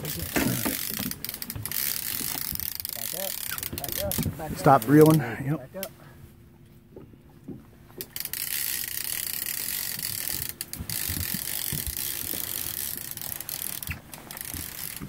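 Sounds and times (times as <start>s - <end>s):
fishing reel ratcheting: 0.0s - 5.2s, 8.0s - 15.0s.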